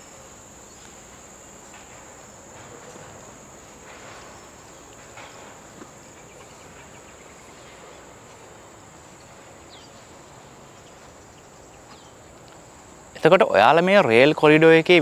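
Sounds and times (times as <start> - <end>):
insects droning high-pitched: 0.0 - 15.0.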